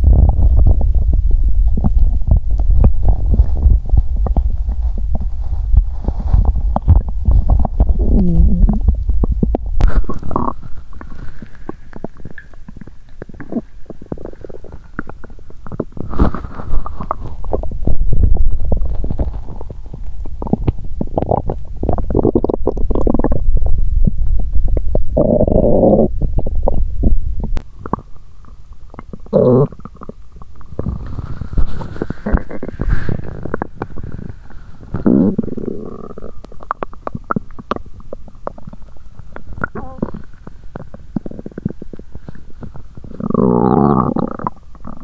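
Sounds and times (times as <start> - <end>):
stomach growling and gurgling: 0.0 - 45.0.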